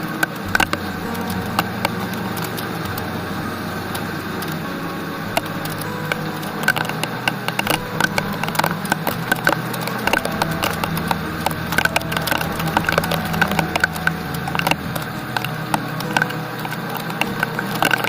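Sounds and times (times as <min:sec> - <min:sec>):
low steady hum: 0:00.0 - 0:18.0
rain hiss: 0:00.0 - 0:18.0
raindrops tapping a surface: 0:00.0 - 0:18.0.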